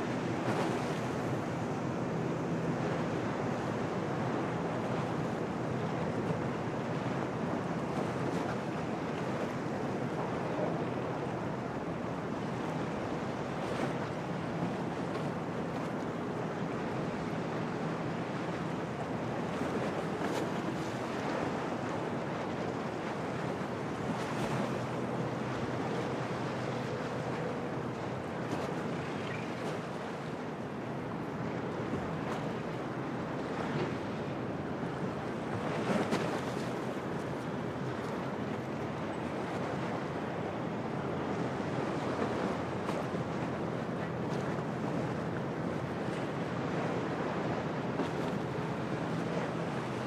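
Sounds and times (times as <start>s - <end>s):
waves splashing: 0.0s - 50.0s.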